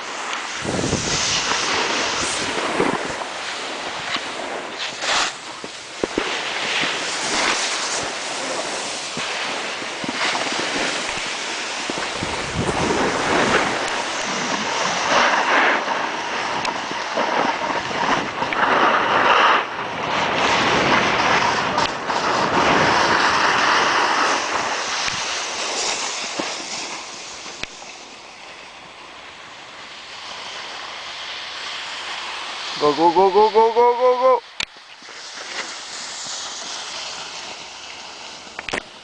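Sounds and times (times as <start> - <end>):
snowboard scraping snow: 0.0 - 39.0
wind rushing over microphone: 0.0 - 39.0.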